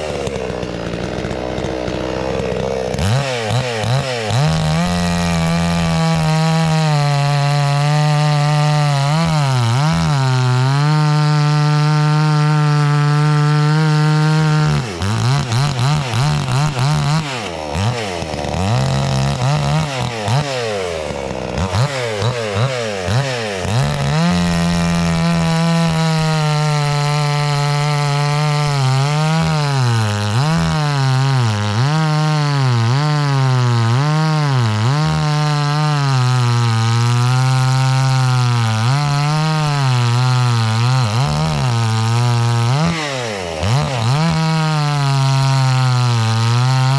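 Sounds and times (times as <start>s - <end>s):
chainsaw cutting through log: 0.0s - 46.9s.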